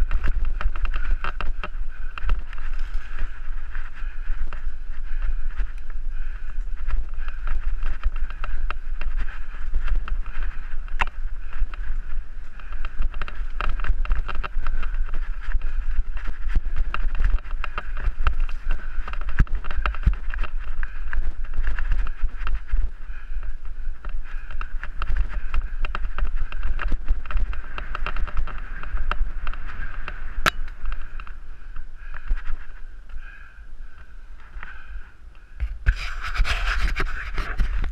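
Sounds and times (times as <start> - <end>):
bike clattering over rough ground: 0.0 - 34.9
wind buffeting microphone: 0.0 - 37.9.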